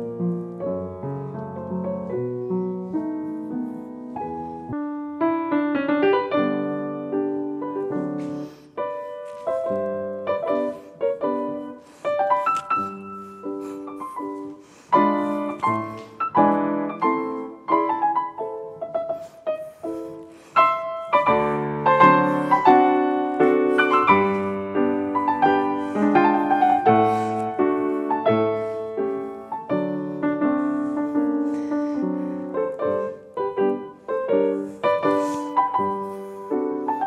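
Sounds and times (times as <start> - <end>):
solo piano chords and melody: 0.0 - 37.0.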